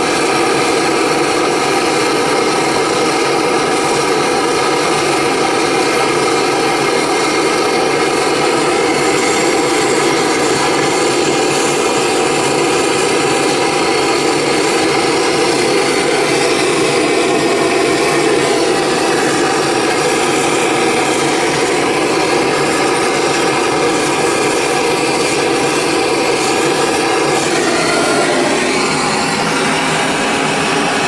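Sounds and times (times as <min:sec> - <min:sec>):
gas torch flame rushing: 0:00.0 - 0:31.0.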